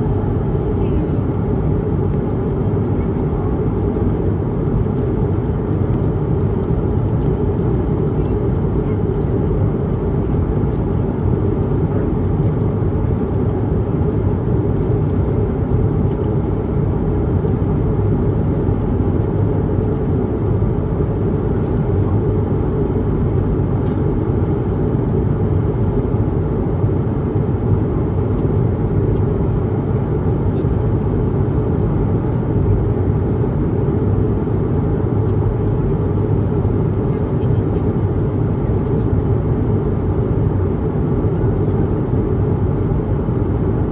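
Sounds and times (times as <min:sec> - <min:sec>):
airplane cabin engine rush: 0:00.0 - 0:43.9.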